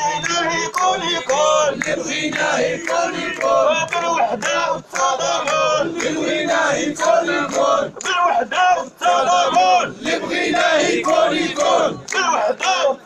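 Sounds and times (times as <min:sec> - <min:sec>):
crowd chanting: 0:00.0 - 0:13.0
rhythmic hand clapping: 0:00.0 - 0:13.0.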